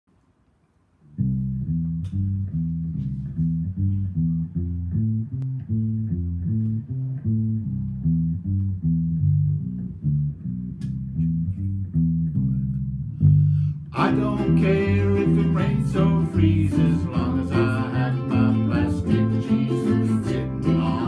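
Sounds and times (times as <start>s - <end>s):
plucked bass ukulele line: 1.1s - 21.0s.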